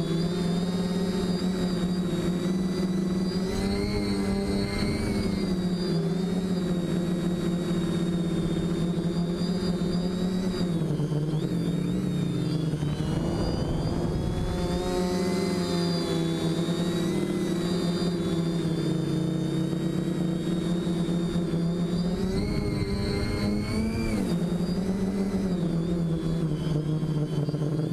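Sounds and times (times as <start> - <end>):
drone motors whining: 0.0 - 27.9.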